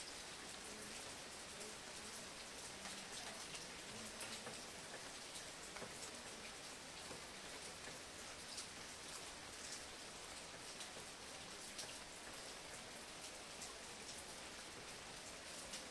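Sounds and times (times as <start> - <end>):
faint steady rain: 0.0 - 15.9
raindrops ticking: 0.0 - 15.9.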